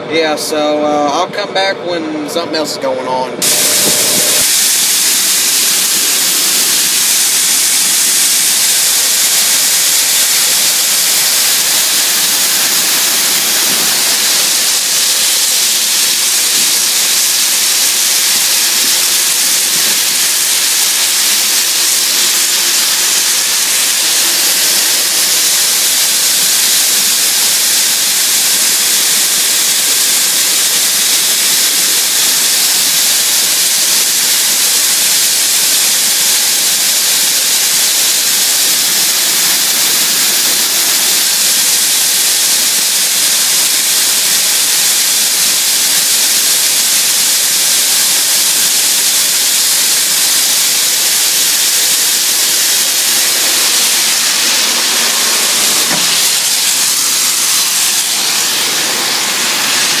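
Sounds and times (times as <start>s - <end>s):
corn kernels pouring: 3.4s - 60.0s.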